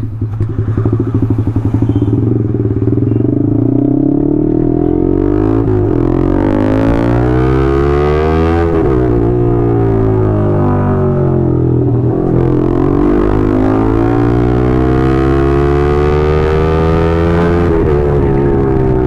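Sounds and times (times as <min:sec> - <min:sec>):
motorcycle engine pulling away: 0:00.0 - 0:19.0.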